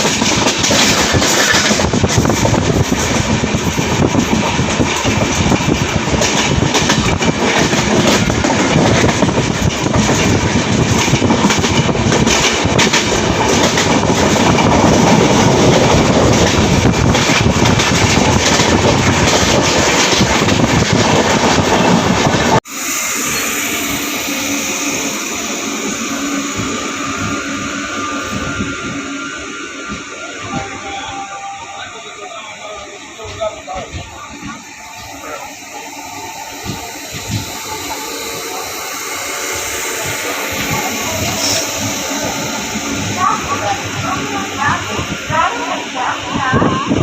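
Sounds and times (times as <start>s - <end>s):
train rolling and wind noise: 0.0s - 47.0s.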